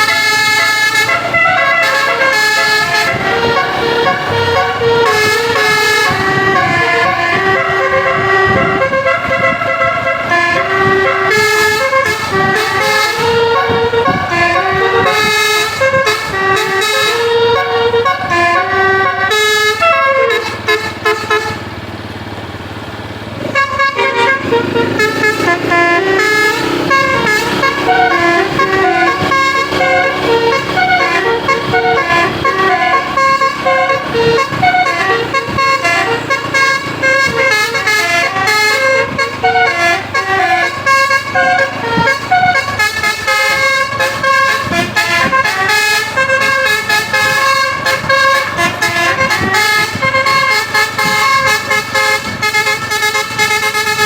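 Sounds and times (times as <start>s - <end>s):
engine and road noise: 0.0s - 54.0s
multi-tone bus horn tune: 0.0s - 54.0s.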